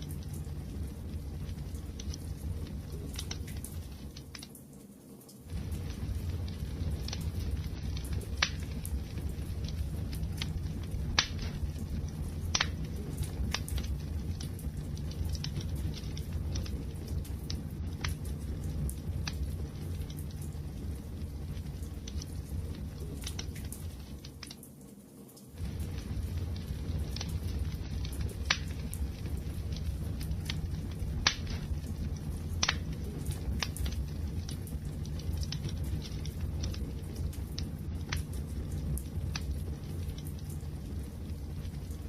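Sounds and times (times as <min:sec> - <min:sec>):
wood fire crackling and popping: 0:00.0 - 0:42.0.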